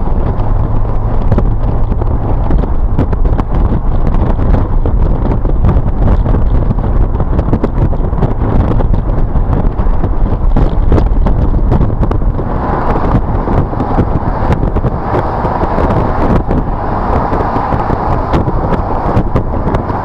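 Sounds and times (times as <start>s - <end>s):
car engine and road rumble: 0.0s - 20.0s
wind buffeting microphone: 0.0s - 20.0s.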